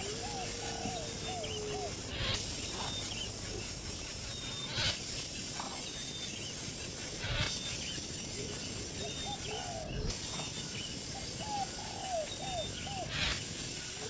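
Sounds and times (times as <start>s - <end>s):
small bird chirps: 0.0s - 14.0s
steady high hiss: 0.0s - 14.0s.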